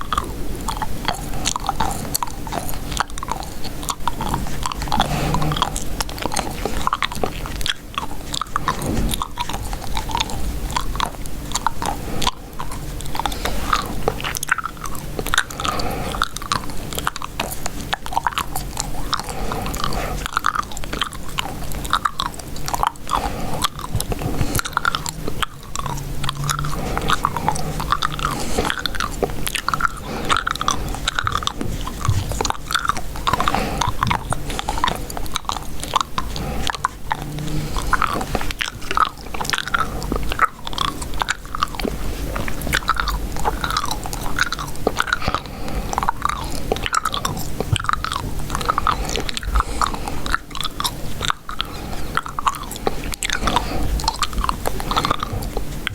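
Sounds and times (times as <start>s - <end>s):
gum chewing wet smacks: 0.0s - 55.9s.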